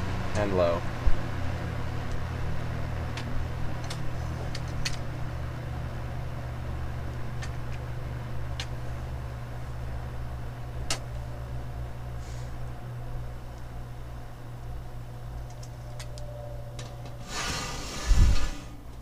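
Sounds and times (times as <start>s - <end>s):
box fan motor hum: 0.0s - 19.0s.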